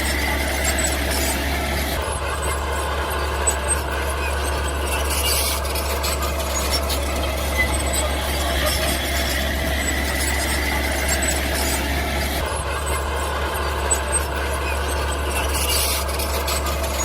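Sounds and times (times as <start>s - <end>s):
mini bulldozer running: 0.0s - 17.0s.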